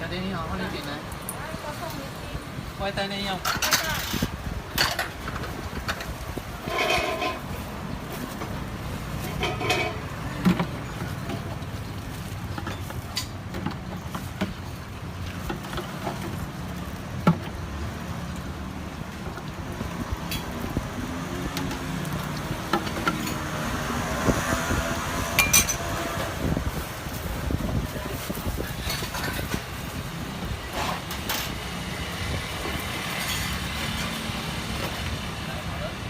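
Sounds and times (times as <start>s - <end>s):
traffic rumble: 0.0s - 36.0s.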